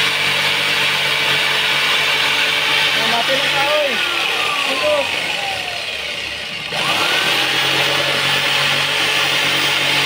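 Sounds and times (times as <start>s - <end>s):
electric jigsaw cutting: 0.0s - 10.0s.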